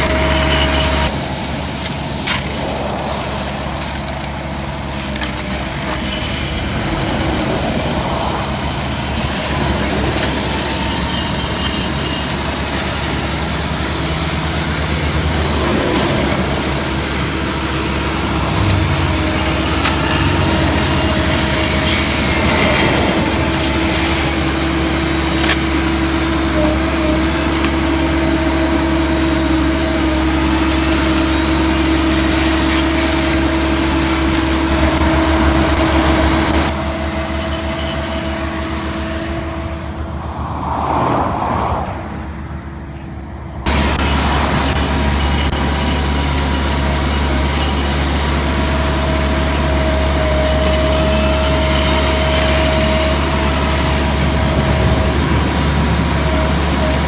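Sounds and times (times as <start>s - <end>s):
mower heads cutting grass: 0.0s - 39.8s, 43.6s - 57.0s
engine running under load: 0.0s - 57.0s
steady whine: 0.0s - 57.0s.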